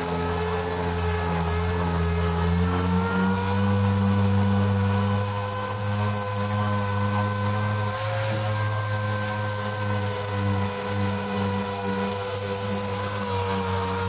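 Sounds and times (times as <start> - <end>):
orbital sander whining: 0.0 - 14.0.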